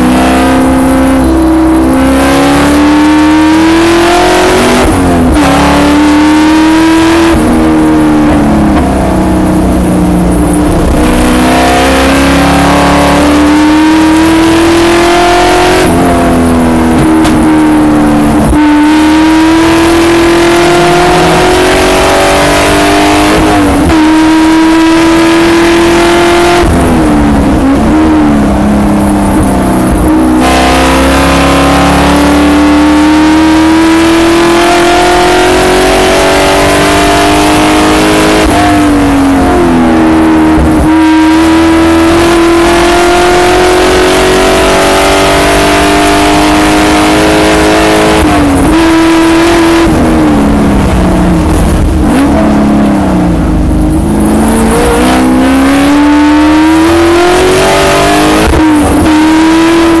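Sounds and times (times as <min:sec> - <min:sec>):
racing car engine accelerating: 0:00.0 - 1:00.0
wind and tyre noise: 0:00.0 - 1:00.0.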